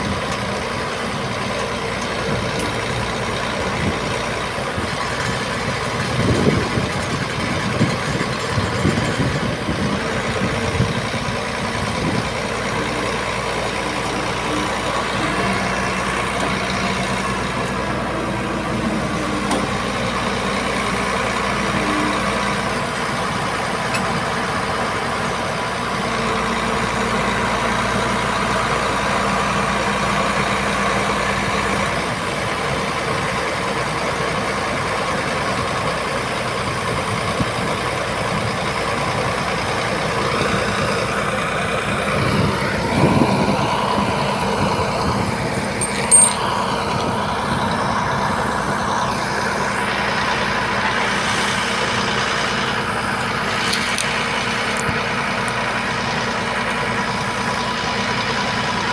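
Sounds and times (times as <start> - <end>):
diesel truck engine idling: 0.0 - 58.9.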